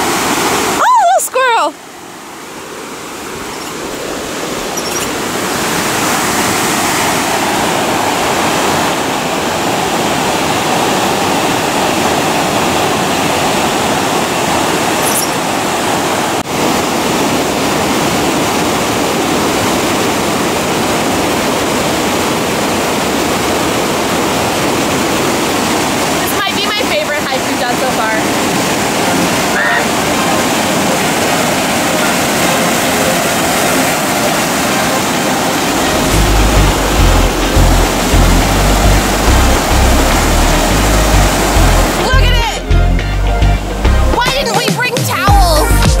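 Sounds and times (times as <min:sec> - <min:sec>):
creek rushing over rocks: 0:00.0 - 0:42.7, 0:44.1 - 0:45.8.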